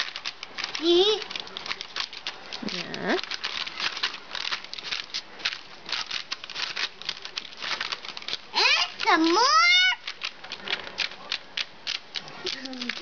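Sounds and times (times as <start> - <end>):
hands patting dough: 0.0 - 13.0
parchment crinkling: 0.0 - 13.0.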